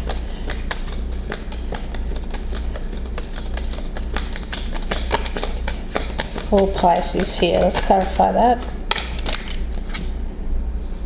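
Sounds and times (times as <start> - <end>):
cards being shuffled: 0.0 - 10.2
low steady hum: 0.0 - 11.0.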